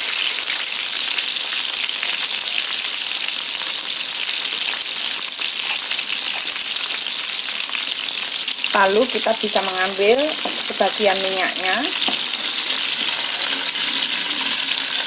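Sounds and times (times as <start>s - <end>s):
chicken wings sizzling in oil: 0.0s - 15.0s.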